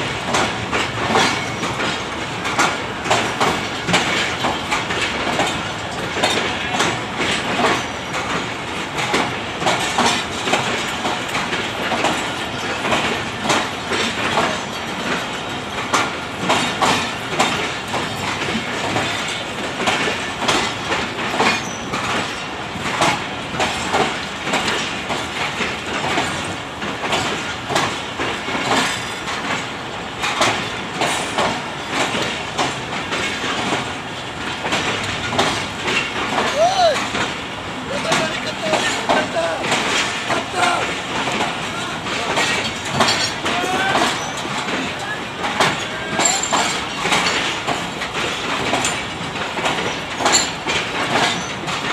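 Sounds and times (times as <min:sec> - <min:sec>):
train wheels clacking over rail joints: 0:00.0 - 0:51.9.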